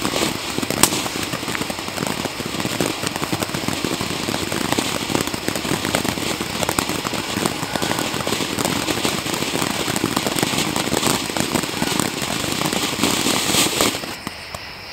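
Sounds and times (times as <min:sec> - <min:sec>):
firework fountain hissing and crackling: 0:00.0 - 0:14.9.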